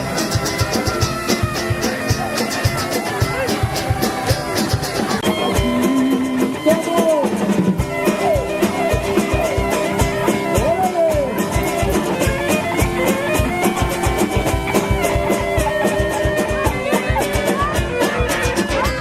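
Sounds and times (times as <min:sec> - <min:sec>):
guitar music: 0:00.0 - 0:19.0
steady drum beat: 0:00.0 - 0:19.0.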